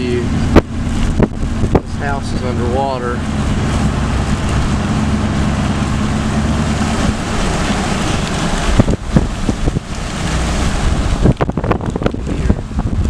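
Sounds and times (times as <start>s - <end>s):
tyre and wind noise on wet road: 0.0s - 13.0s
wind buffeting microphone: 0.0s - 13.0s.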